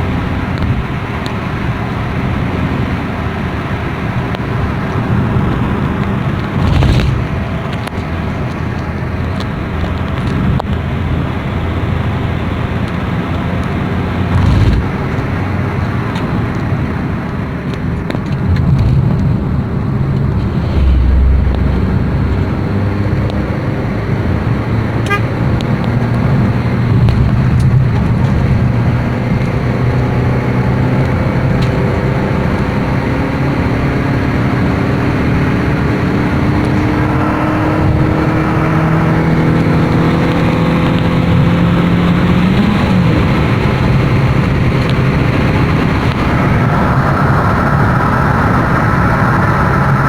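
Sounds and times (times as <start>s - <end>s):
car engine running: 0.0s - 50.0s
tyre and road noise: 0.0s - 50.0s.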